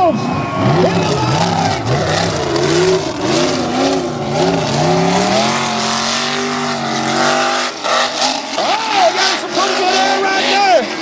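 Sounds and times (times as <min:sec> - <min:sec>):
truck engine revving: 0:00.4 - 0:11.0.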